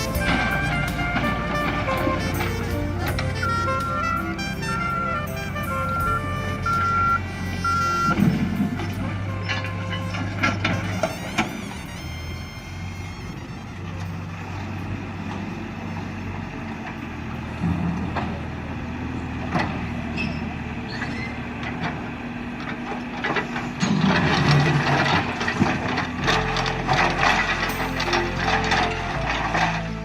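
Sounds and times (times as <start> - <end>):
heavy vehicle engine running: 0.0 - 30.0.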